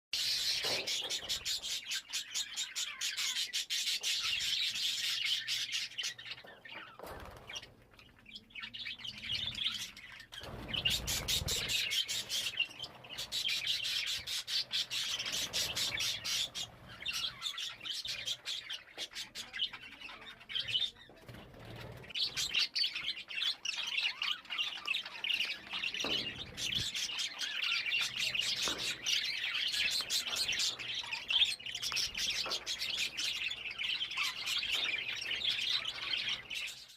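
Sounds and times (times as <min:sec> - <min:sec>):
parrots chirping and chattering: 0:00.2 - 0:36.9.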